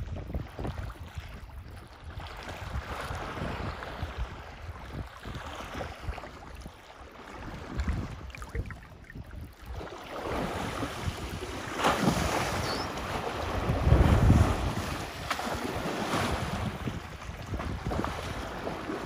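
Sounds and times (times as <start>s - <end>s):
wind on microphone: 0.0s - 19.0s
water sloshing and splashing: 0.4s - 19.0s.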